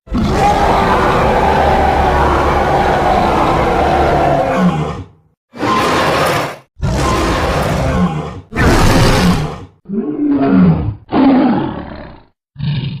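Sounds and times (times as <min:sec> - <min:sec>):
deep dinosaur roars: 0:00.1 - 0:13.0.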